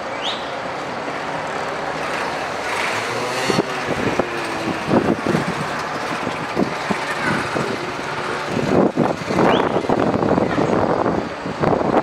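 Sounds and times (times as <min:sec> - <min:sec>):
motor vehicle rumbling: 0:00.0 - 0:12.0.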